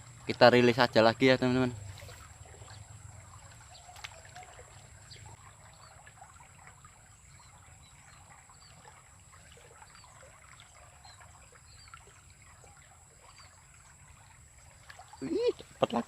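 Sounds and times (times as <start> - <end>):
water trickling in a ditch: 0.0 - 16.0.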